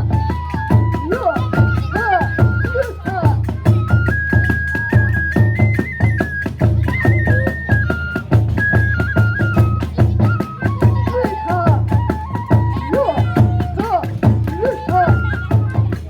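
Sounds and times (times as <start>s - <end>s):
bamboo flute melody: 0.0s - 16.0s
taiko drums beating: 0.0s - 16.0s.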